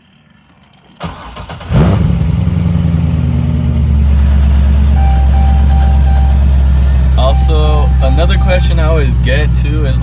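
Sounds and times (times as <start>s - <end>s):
car engine revving and idling: 0.0s - 10.0s.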